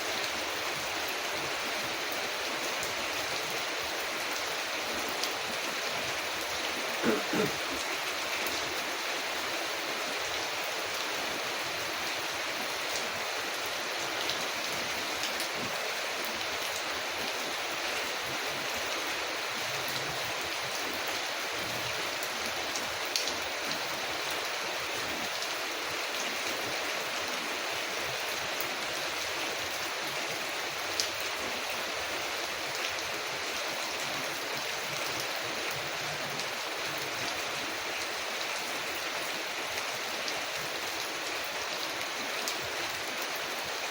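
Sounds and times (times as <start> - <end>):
rain on a window: 0.0 - 43.9.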